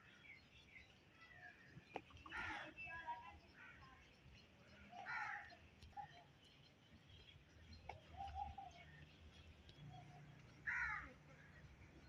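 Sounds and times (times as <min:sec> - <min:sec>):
birds calling faintly: 0:00.0 - 0:12.0.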